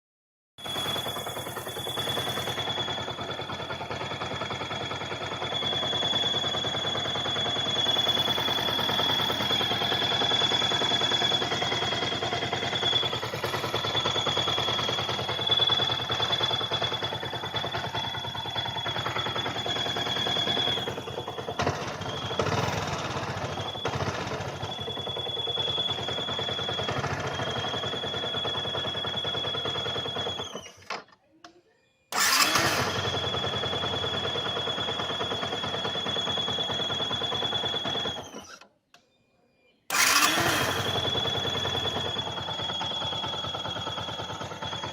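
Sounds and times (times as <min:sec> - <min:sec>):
high-pitched whistle: 0:00.6 - 0:30.8, 0:32.1 - 0:38.6, 0:39.9 - 0:44.9
motorcycle engine running: 0:00.6 - 0:30.9, 0:32.2 - 0:38.4, 0:39.9 - 0:44.9.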